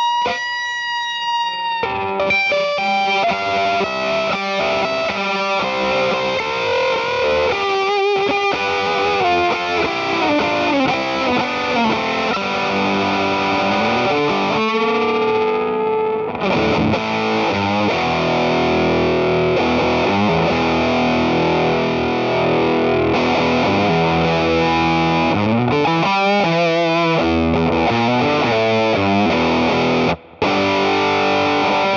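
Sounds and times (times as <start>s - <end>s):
fuzz distorted electric guitar: 0.0s - 31.9s.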